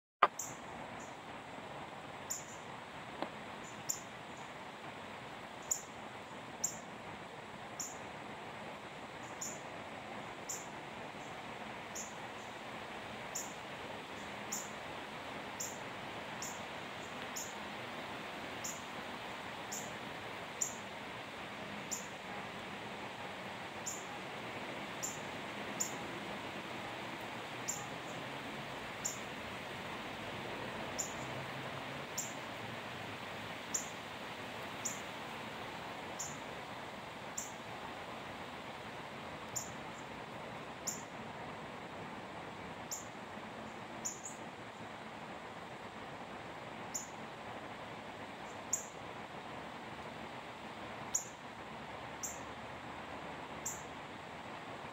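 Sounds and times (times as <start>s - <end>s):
steady background hiss: 0.2s - 54.9s.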